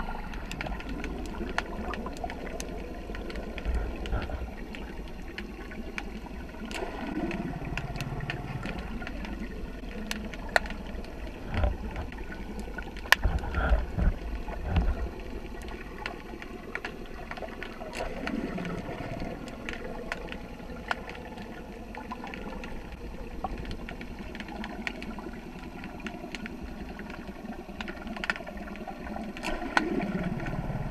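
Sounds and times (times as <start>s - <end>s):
underwater clicks: 0.0s - 30.9s
underwater rumble of moving water: 0.0s - 30.9s.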